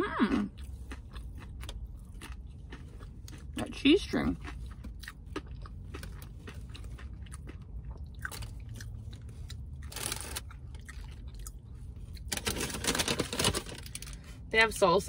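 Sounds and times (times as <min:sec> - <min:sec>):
chewing and crunching taco: 0:00.0 - 0:14.5.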